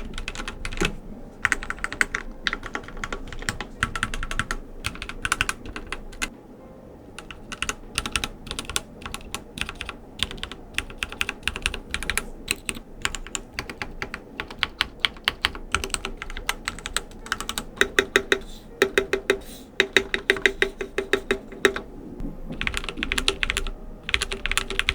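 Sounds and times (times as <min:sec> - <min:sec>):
typing on mechanical keyboard: 0:00.0 - 0:06.3, 0:07.2 - 0:24.9.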